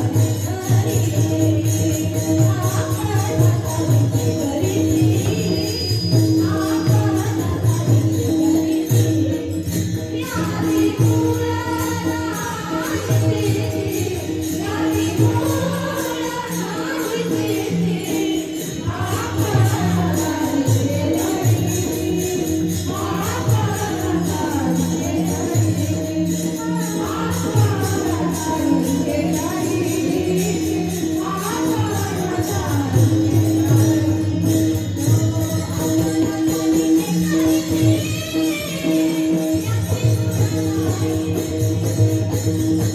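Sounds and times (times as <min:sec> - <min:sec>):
small hand cymbals jingling: 0:00.0 - 0:42.9
voices singing devotional melody: 0:00.0 - 0:42.9.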